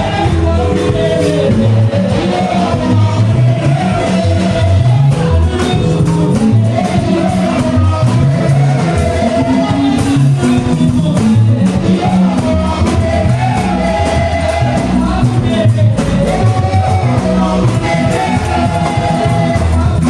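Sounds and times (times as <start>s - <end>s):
bass line: 0.0s - 20.0s
singing over live band: 0.0s - 20.0s.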